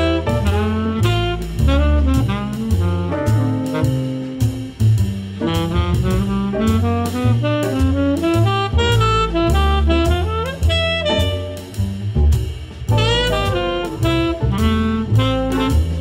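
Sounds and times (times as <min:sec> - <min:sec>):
instrumental jazz music: 0:00.0 - 0:16.0.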